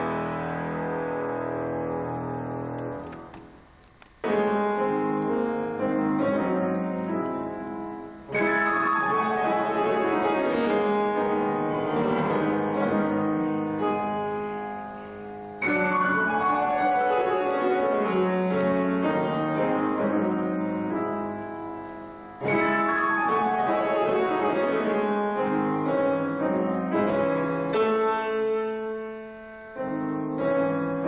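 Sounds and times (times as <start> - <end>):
solo grand piano: 0.0 - 31.0.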